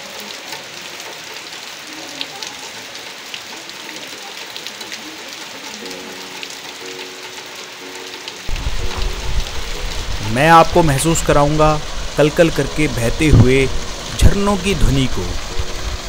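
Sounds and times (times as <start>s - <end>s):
steady rain hissing: 0.0s - 16.0s
raindrops ticking: 0.1s - 16.0s.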